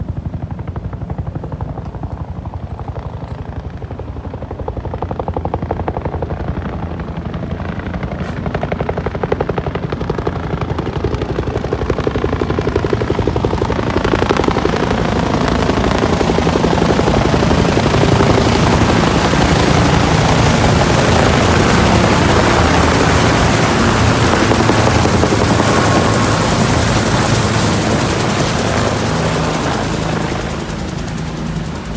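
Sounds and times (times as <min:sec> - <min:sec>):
helicopter rotor beat: 0:00.0 - 0:31.9.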